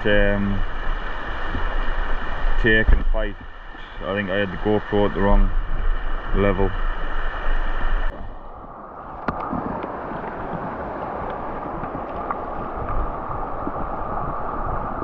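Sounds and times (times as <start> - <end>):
river water rushing over stones: 0.0 - 15.0
wind buffeting microphone: 0.0 - 15.0.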